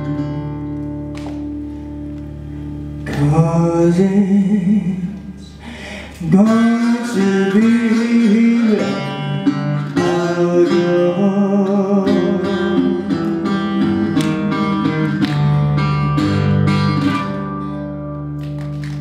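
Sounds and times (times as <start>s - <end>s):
guitar picking notes and chords: 0.0s - 19.0s.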